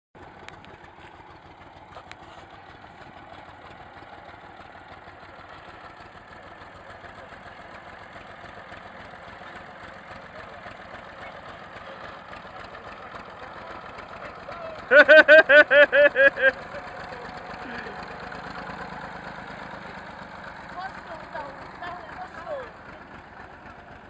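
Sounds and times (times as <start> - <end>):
tractor engine running: 0.2 - 24.0.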